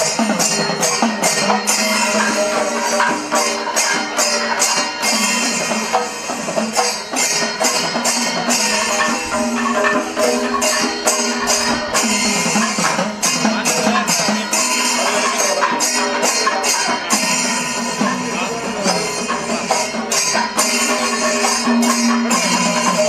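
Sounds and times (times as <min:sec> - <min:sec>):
hand cymbals clashing: 0:00.0 - 0:23.0
hourglass drums beaten: 0:00.0 - 0:23.0.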